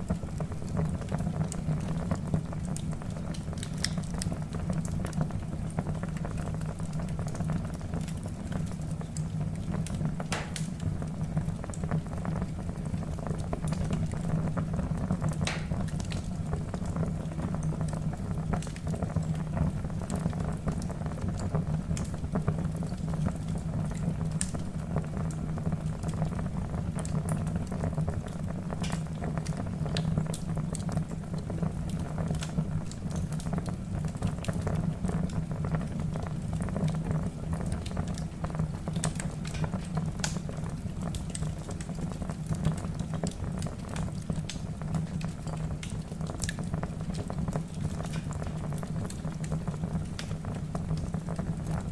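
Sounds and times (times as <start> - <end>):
fire crackling in fireplace: 0.0 - 51.9.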